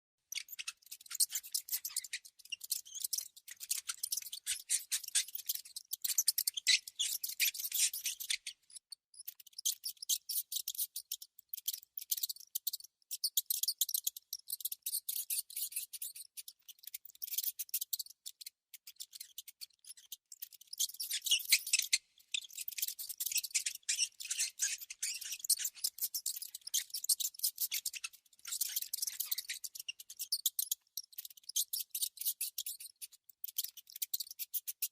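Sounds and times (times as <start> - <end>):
high-pitched clicking and scratching: 0.4 - 34.9.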